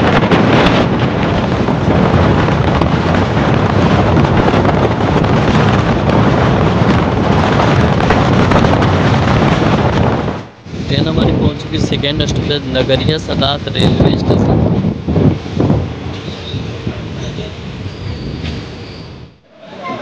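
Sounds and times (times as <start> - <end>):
train rumbling on track: 0.0 - 20.0
wind buffeting microphone: 0.0 - 20.0.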